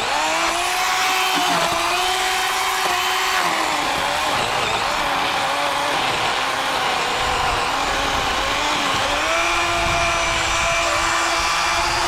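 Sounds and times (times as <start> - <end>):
electric chainsaw cutting wood: 0.0 - 12.0.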